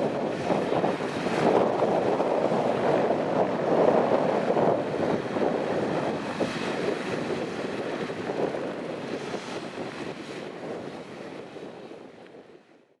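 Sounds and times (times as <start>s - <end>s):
helicopter turbines and rotor: 0.0s - 12.2s
wind on microphone: 0.0s - 13.0s.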